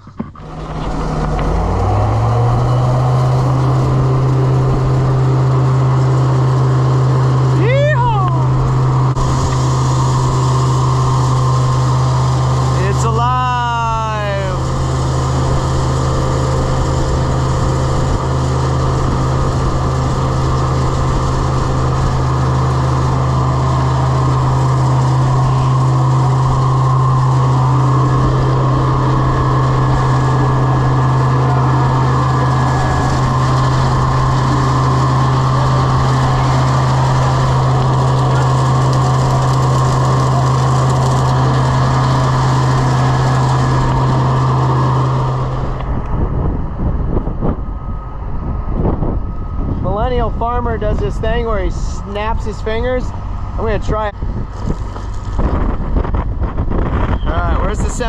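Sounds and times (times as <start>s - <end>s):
grain vac mechanical drone: 0.0s - 58.0s.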